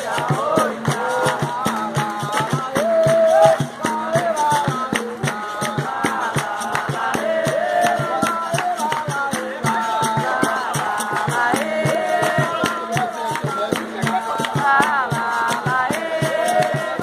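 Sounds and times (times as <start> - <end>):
claps or drum strikes: 0.0 - 17.0
percussion: 0.0 - 17.0
voices singing: 0.0 - 17.0.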